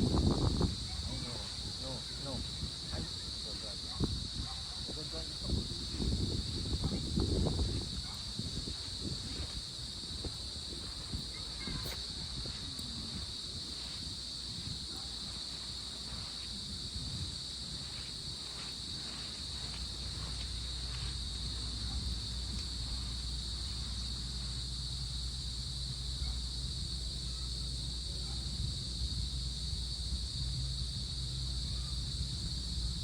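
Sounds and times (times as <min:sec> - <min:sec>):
crickets chirping: 0:00.0 - 0:33.0
wind: 0:00.0 - 0:33.0.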